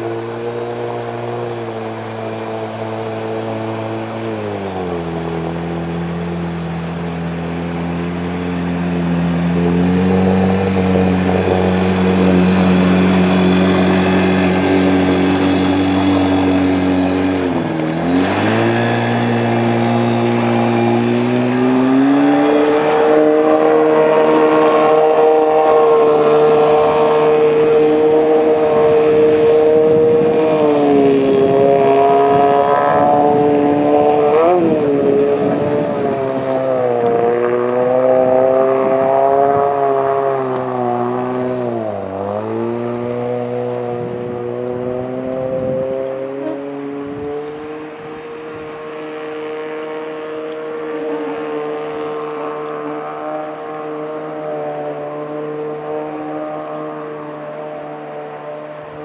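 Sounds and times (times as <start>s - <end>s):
outboard motor running hard: 0.0s - 59.0s.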